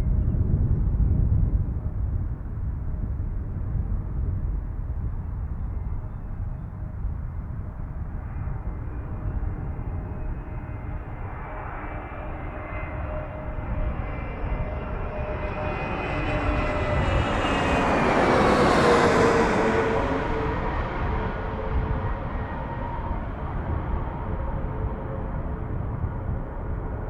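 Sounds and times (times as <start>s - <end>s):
airliner passing overhead: 0.0s - 27.0s.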